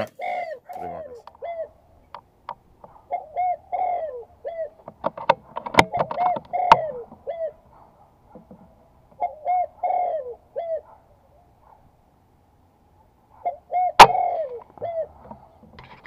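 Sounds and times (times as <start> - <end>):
dove cooing: 0.0 - 11.8, 13.3 - 16.0.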